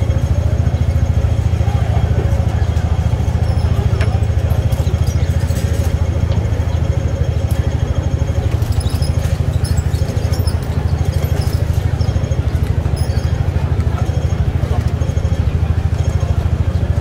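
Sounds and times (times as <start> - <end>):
tram rumble: 0.0 - 17.0.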